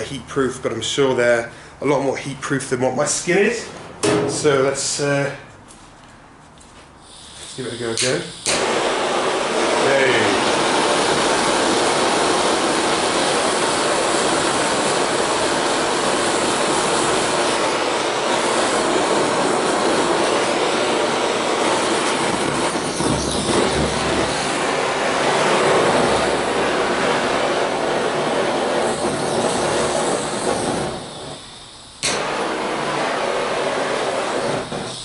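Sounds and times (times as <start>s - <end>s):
gas blowtorch hissing: 7.0s - 35.0s.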